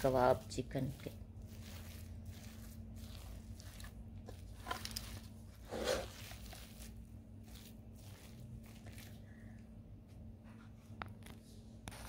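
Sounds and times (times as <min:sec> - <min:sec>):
metal spoon stirring thick mixture: 0:00.0 - 0:09.7
low steady hum: 0:00.0 - 0:12.0.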